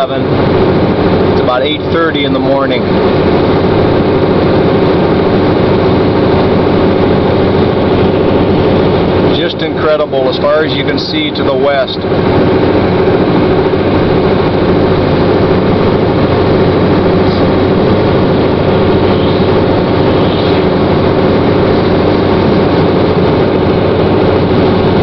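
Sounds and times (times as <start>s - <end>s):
car cabin road noise: 0.0s - 25.0s.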